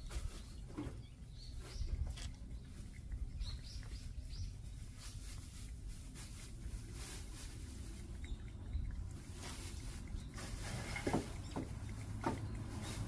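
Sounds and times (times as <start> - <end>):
low outdoor rumble: 0.0 - 13.0
cat chewing: 0.1 - 13.0.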